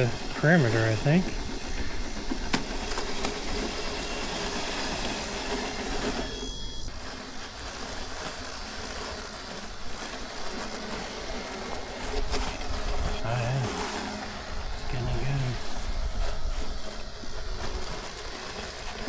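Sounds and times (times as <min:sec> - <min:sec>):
robot lawnmower whirring: 0:00.0 - 0:19.0.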